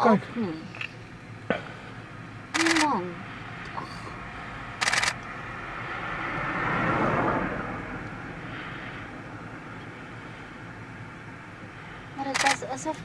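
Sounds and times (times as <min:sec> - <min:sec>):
engine passing by: 0:00.0 - 0:13.0.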